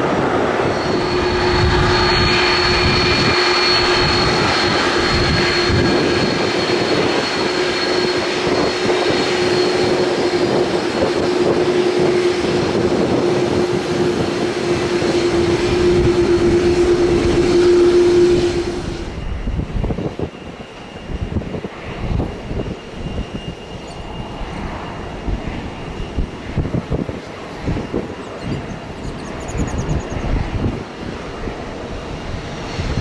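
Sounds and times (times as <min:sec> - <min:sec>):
aircraft engines roaring: 0:00.0 - 0:33.0.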